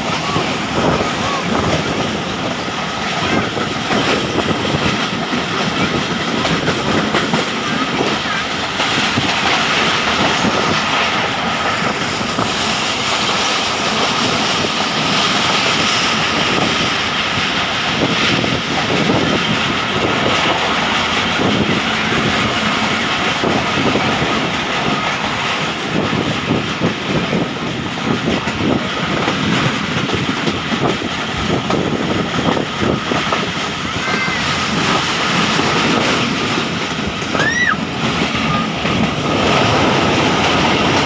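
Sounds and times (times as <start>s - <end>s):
passenger train rumbling: 0.0s - 41.0s
wheels clattering on rails: 0.0s - 41.0s.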